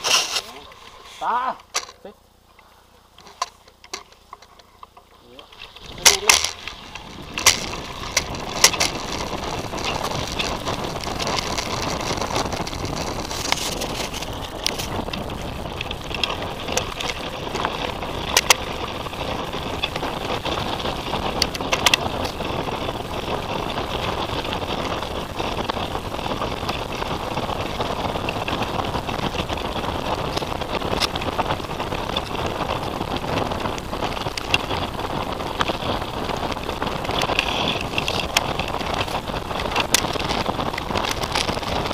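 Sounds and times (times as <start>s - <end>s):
bike rattling over dirt trail: 0.0s - 41.9s
bike knocking over bumps: 5.6s - 41.9s.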